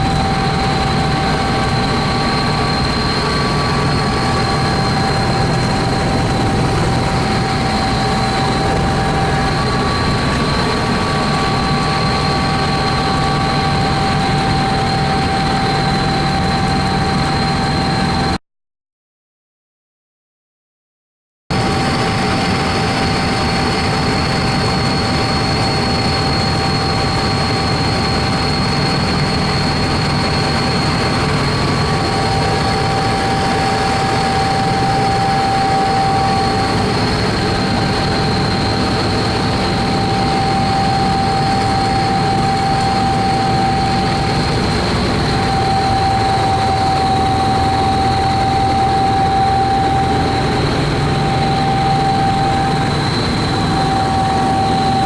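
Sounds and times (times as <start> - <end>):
helicopter engine and rotor drone: 0.0 - 18.4, 21.5 - 55.0
high steady whine: 0.0 - 18.4, 21.5 - 55.0.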